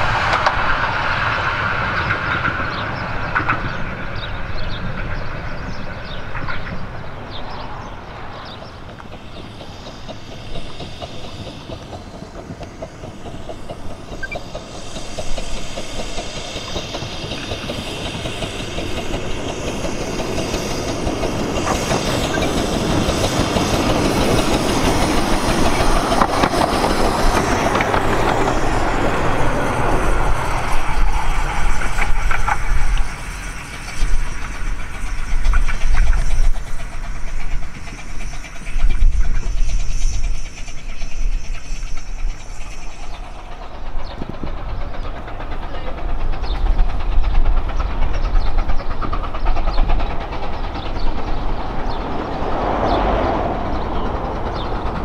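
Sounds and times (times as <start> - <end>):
miniature steam locomotive passing: 0.0 - 55.0.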